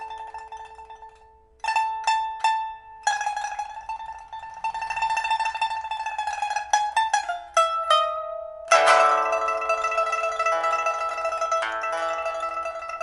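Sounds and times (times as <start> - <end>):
pipa plucked notes and tremolo: 0.0 - 13.0.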